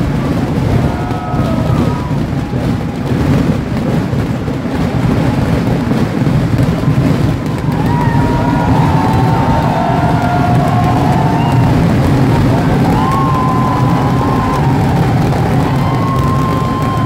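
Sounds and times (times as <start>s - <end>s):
deep rumble with crackling: 0.0s - 17.0s
fireworks exploding: 0.0s - 17.0s.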